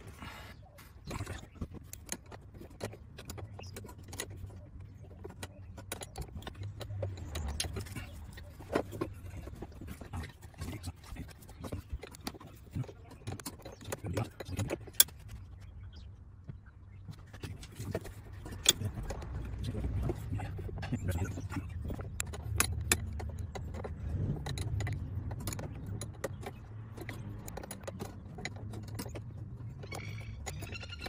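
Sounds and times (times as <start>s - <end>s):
metallic clicks and taps of tools: 1.2s - 15.4s, 17.6s - 31.0s.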